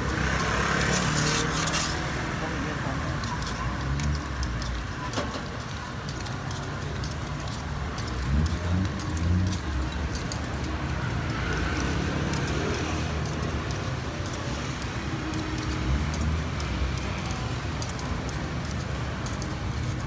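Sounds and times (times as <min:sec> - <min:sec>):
metal picks clicking on griddle: 0:03.2 - 0:20.0.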